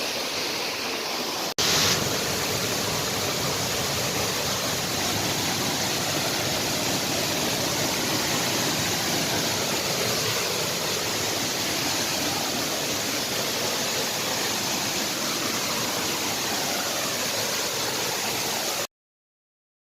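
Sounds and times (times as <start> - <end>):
flowing water rushing: 0.0 - 18.9.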